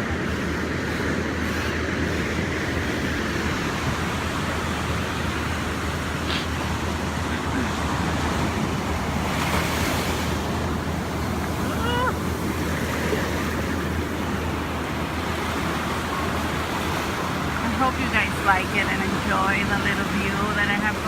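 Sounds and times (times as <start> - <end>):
ocean surf breaking on beach: 0.0 - 21.0.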